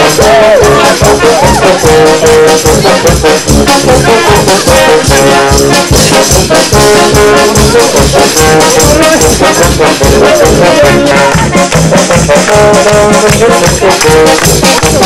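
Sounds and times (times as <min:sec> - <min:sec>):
steady beat: 0:00.0 - 0:15.0
trumpet and trombone held notes: 0:00.0 - 0:15.0.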